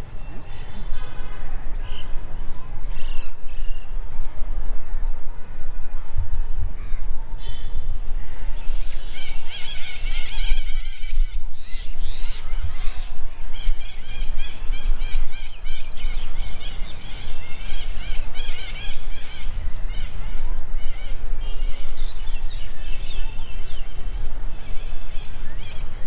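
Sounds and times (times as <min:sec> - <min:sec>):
constant low rumble: 0:00.0 - 0:26.0.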